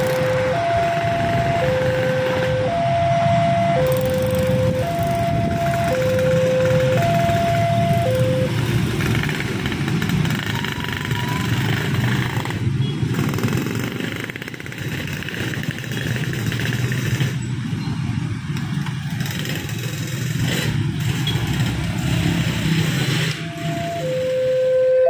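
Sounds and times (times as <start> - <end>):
vehicle engines running: 0.0 - 24.8.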